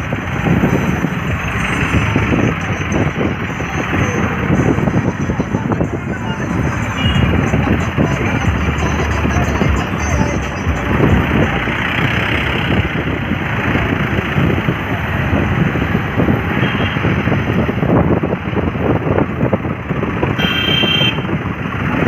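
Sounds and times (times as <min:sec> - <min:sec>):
tractor engines driving past: 0:00.0 - 0:22.0.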